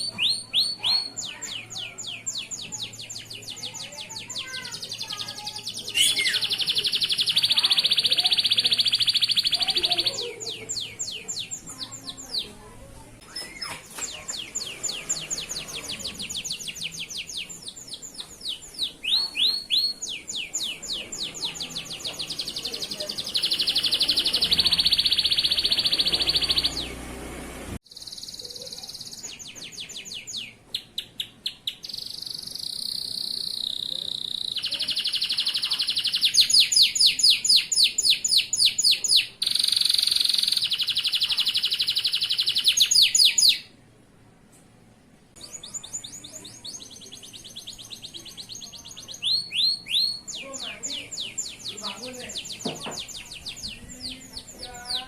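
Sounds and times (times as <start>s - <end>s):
canary singing trills: 0.0s - 27.2s, 27.9s - 43.8s, 45.4s - 55.0s.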